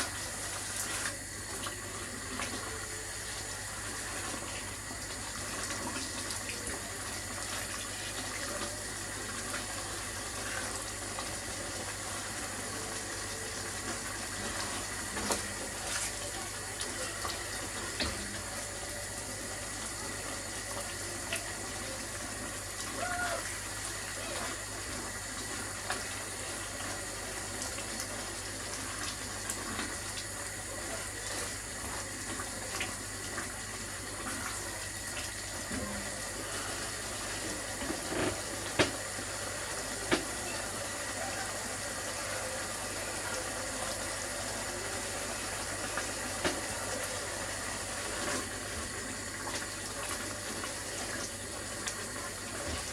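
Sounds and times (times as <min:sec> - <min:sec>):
curry sizzling in a pan: 0:00.0 - 0:52.9.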